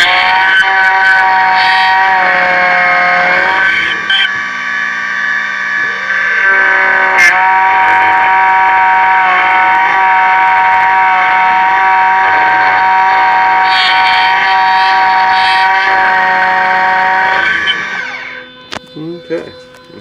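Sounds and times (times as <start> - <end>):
cutter scratching metal: 0.0 - 20.0
key-cutting machine whine: 0.0 - 20.0.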